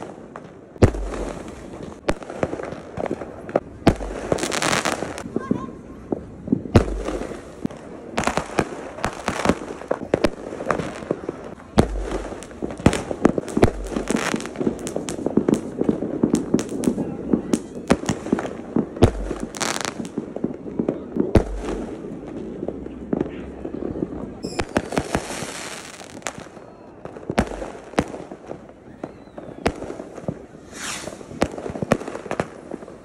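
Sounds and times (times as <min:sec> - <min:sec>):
fireworks bangs and pops: 0:00.0 - 0:33.0
deep firework booms: 0:00.8 - 0:32.9.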